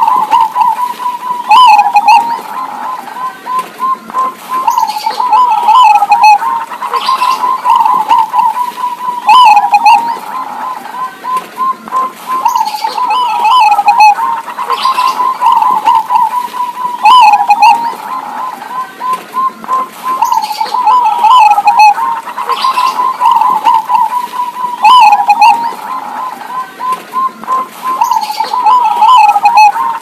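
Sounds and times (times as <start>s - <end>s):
doves cooing: 0.0s - 30.0s.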